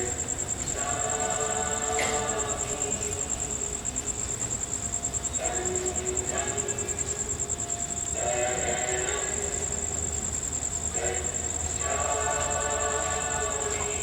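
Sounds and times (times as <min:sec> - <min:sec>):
steady high whine: 0:00.0 - 0:14.0
voices chanting held tones: 0:00.0 - 0:14.0.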